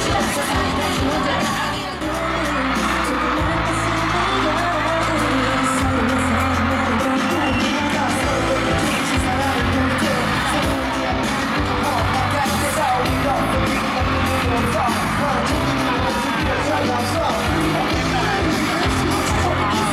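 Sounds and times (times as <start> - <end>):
pop song with singing: 0.0 - 19.9.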